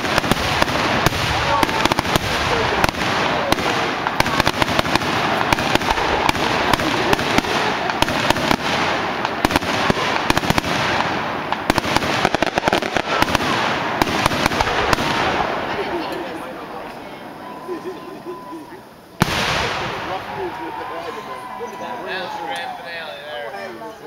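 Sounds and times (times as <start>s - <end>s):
fireworks bangs and crackles: 0.0s - 17.6s, 19.2s - 21.6s.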